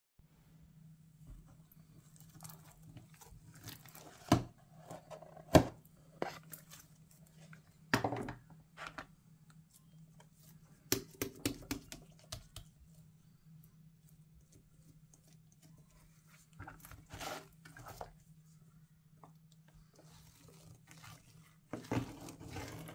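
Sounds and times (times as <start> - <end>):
faint low hum: 0.2 - 22.9.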